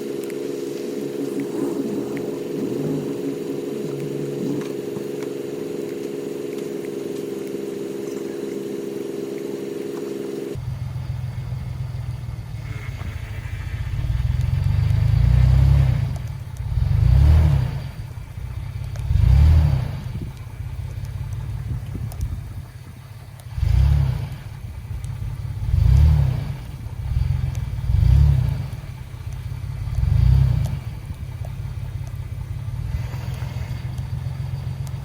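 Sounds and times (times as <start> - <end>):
pickup truck engine revving: 0.0 - 35.0
steady mechanical hum: 0.0 - 35.0.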